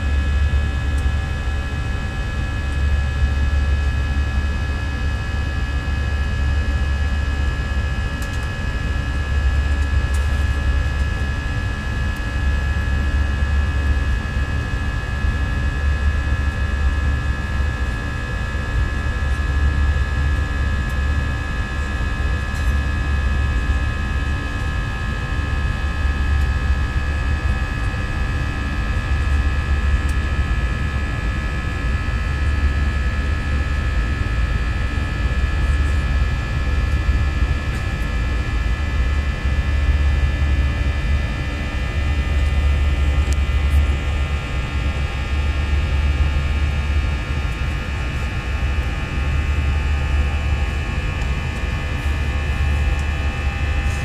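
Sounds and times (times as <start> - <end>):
jet engines from inside cabin: 0.0 - 54.0.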